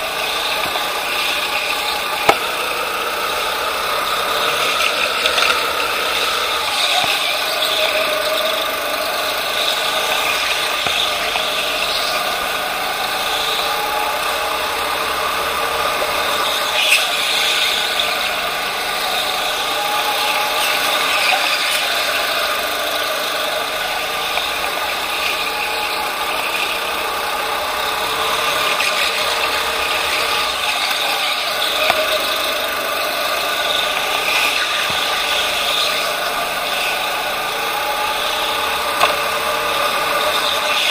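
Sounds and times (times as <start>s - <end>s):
go-kart engine whirring and rattling: 0.0s - 40.9s.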